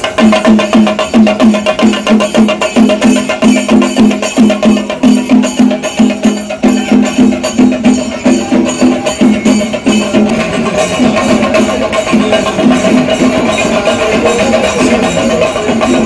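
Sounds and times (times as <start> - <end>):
drums beating fast rhythm: 0.0 - 16.0
jingling cymbals: 0.0 - 16.0.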